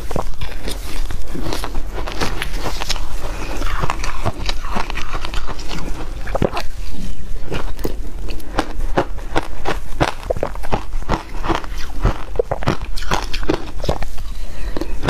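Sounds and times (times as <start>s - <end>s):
ice being crunched and chewed: 0.0s - 15.0s.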